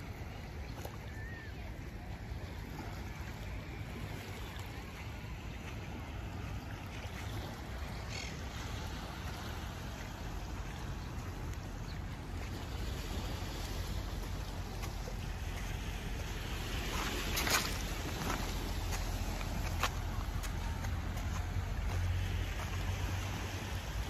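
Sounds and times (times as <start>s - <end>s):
waves washing on rocky shore: 0.0s - 24.0s.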